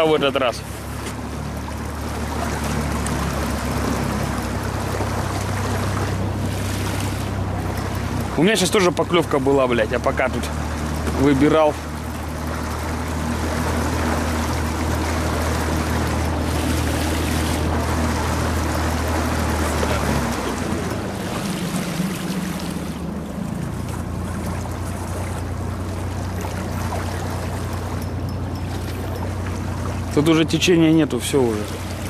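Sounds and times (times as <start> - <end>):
outboard motor humming: 0.0 - 32.0
water: 0.0 - 32.0.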